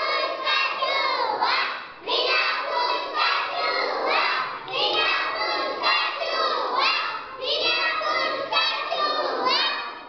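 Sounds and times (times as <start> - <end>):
young children shouting: 0.0 - 10.0.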